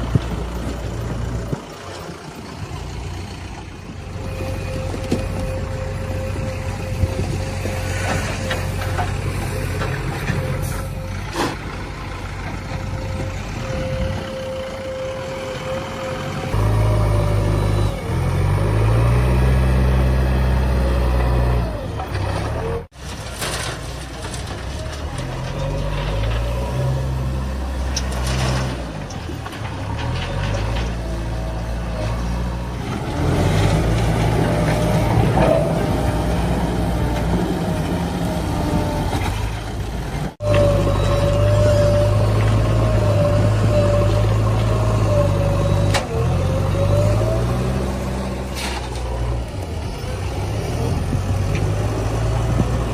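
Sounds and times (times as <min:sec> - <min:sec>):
diesel engine revving: 0:00.0 - 0:23.0, 0:24.2 - 0:52.9.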